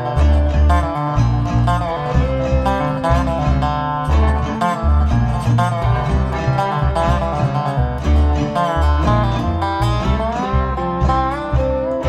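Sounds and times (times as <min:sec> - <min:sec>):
driving bass line: 0:00.0 - 0:12.0
plucked strings: 0:00.0 - 0:12.0.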